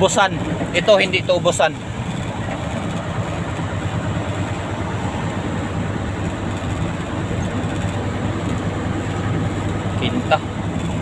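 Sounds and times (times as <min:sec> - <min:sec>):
diesel engine drone in cab: 0:00.0 - 0:11.0
road noise: 0:00.0 - 0:11.0.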